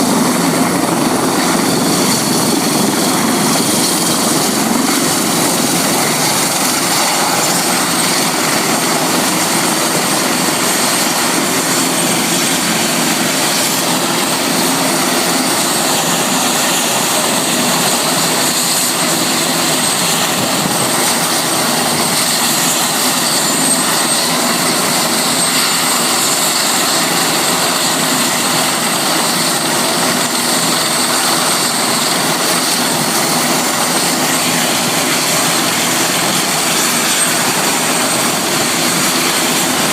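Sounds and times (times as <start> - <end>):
helicopter running: 0.0 - 39.9
high steady whine: 0.0 - 39.9.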